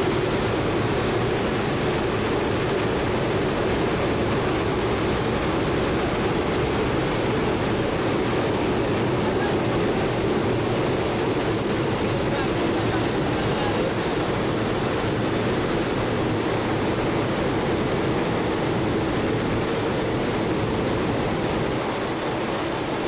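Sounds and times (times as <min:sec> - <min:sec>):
aircraft engine noise: 0:00.0 - 0:23.0.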